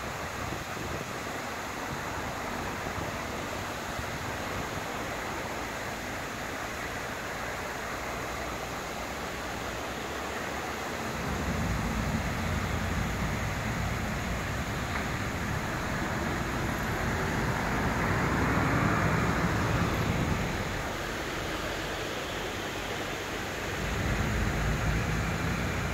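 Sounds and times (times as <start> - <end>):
fountain water splashing: 0.0 - 25.9.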